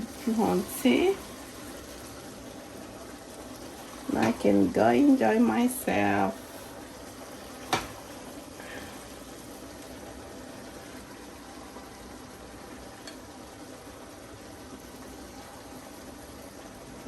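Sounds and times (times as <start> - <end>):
pot boiling on stove: 0.0 - 17.0.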